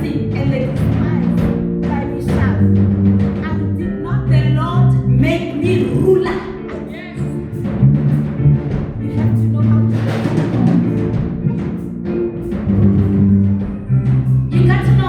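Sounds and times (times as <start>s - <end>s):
drum hits: 0.0s - 15.0s
heavy bass notes: 0.0s - 15.0s.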